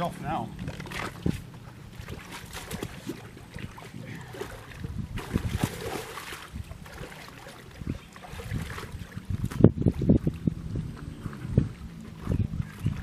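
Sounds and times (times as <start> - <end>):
water sloshing: 0.0 - 13.0
wind rumbling on microphone: 0.0 - 13.0.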